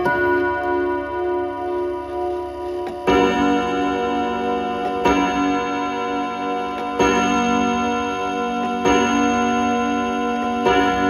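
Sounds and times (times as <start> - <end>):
clock chime rods ringing: 0.0 - 11.0.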